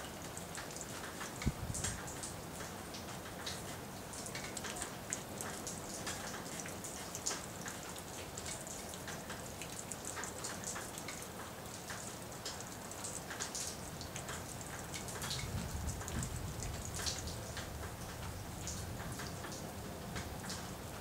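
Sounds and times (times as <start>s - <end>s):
rain hiss: 0.0s - 21.0s
raindrops ticking on surfaces: 0.0s - 21.0s.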